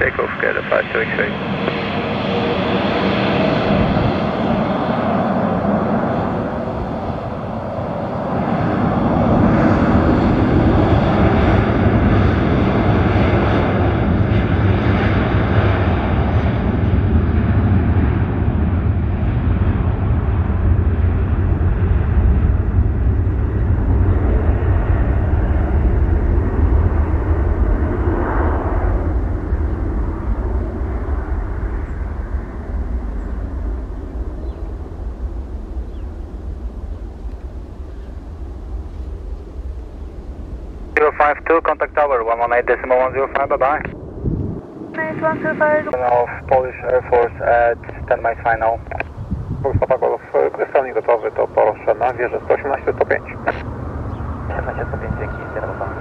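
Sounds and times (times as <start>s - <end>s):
jet airliner taking off: 0.0s - 56.0s.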